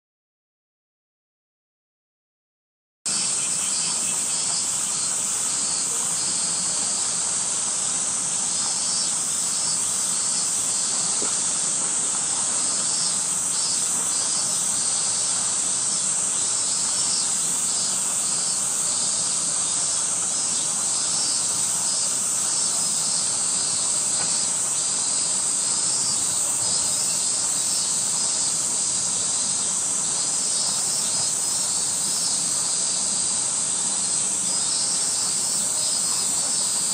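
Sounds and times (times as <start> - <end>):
cicadas droning: 3.1 - 36.9.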